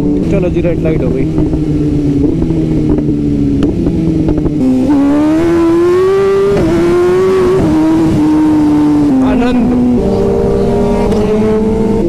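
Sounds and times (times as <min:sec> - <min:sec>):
motorcycle engine upshifting: 0:00.0 - 0:12.0
wind on microphone: 0:00.0 - 0:12.0.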